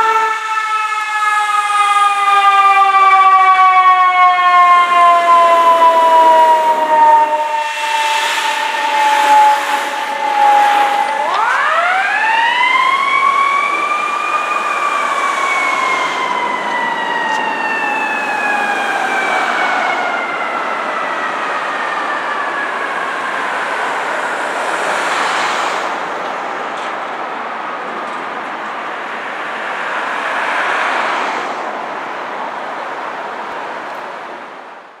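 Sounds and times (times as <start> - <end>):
fire engine siren: 0.0 - 35.0.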